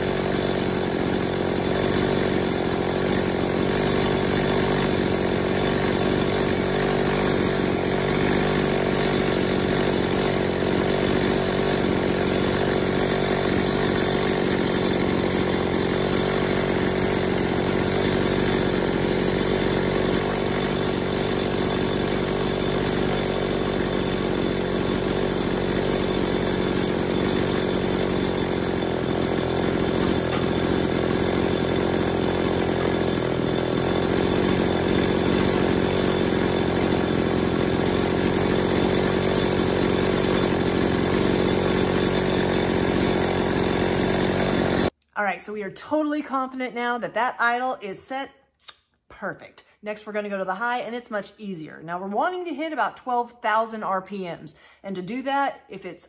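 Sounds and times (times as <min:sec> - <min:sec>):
chainsaw engine idling: 0:00.0 - 0:44.9.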